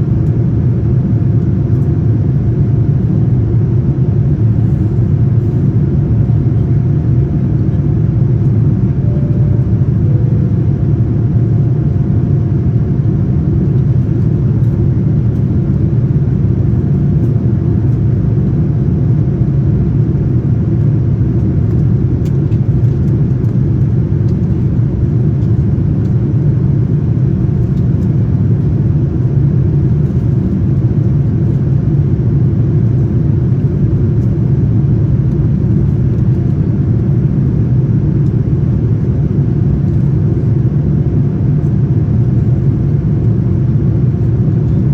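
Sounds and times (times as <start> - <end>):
airplane engine rumble in cabin: 0.0 - 44.9
faint steady hum: 0.0 - 44.9.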